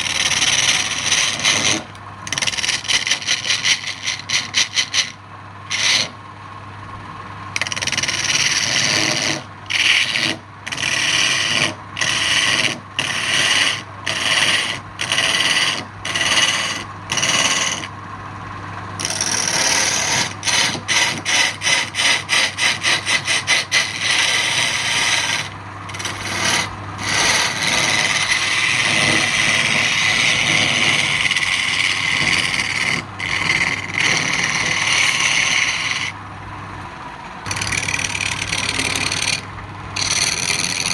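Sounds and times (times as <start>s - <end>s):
tool scraping spinning wood: 0.0s - 6.3s, 7.4s - 18.1s, 18.9s - 36.4s, 37.2s - 40.9s
lathe motor hum: 0.0s - 40.9s.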